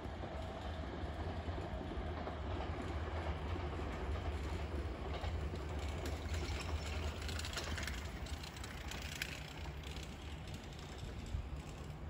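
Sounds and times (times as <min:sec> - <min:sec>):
electric train rumbling: 0:00.0 - 0:12.0
faint rail clicks: 0:00.0 - 0:12.0.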